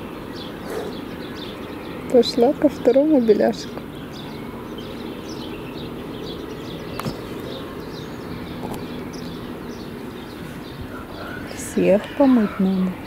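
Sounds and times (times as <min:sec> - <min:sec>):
low outdoor hum: 0:00.0 - 0:13.0
small birds chirping: 0:00.0 - 0:13.0.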